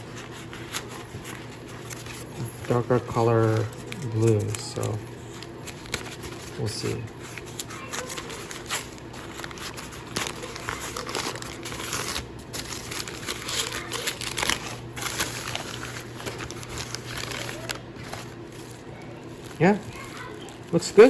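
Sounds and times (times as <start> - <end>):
packing material crinkling: 0.0 - 21.0.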